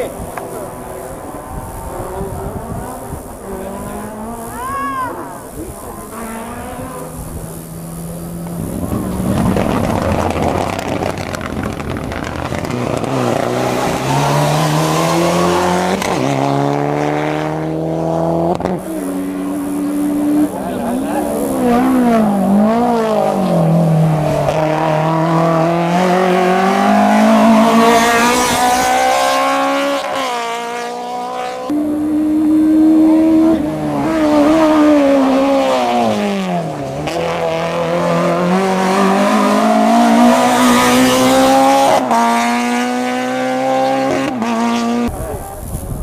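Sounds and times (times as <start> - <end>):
race car engine revving: 0.0 - 45.6.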